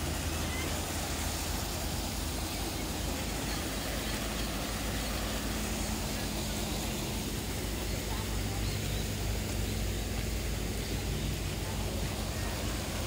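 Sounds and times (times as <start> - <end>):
engine droning: 0.0 - 13.0
faint steady tone: 0.0 - 13.0.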